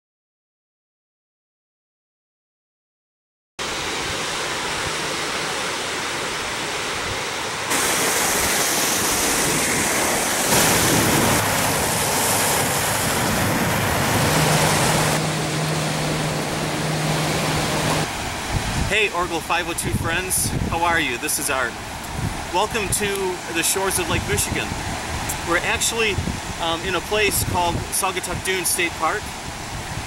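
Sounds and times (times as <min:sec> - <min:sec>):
waves washing onto sandy beach: 0:03.6 - 0:30.0.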